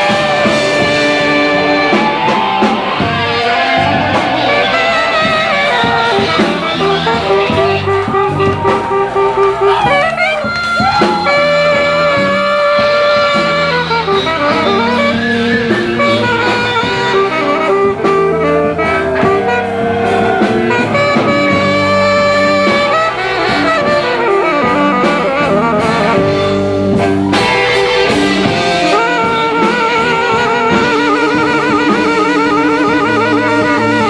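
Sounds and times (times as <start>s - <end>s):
blues band playing live: 0.0s - 34.0s
melodic lead line with vibrato: 0.0s - 34.0s.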